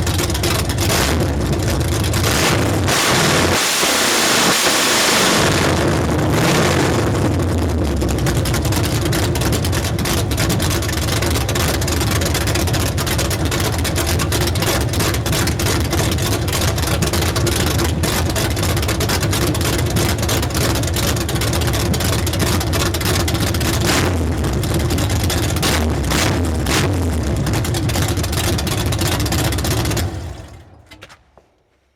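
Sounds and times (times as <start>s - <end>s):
car engine idling roughly: 0.0s - 31.0s.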